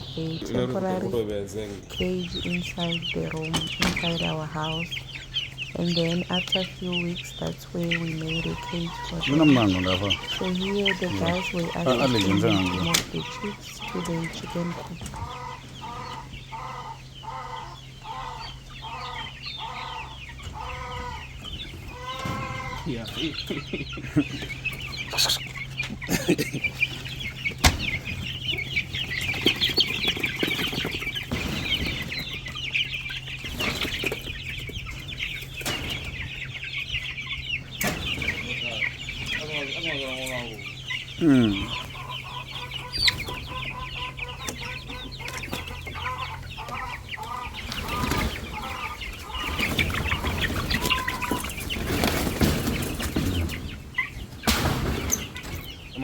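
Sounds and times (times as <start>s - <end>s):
steady low hum: 0.0s - 50.7s
chicks peeping: 0.0s - 56.0s.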